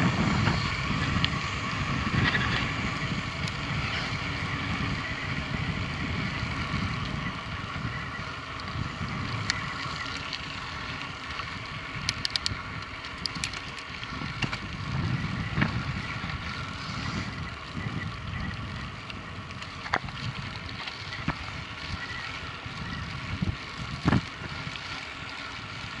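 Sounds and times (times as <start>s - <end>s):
bike clicks and rattles: 0.0s - 26.0s
bike rumble: 0.0s - 26.0s
wind buffeting microphone: 0.0s - 26.0s.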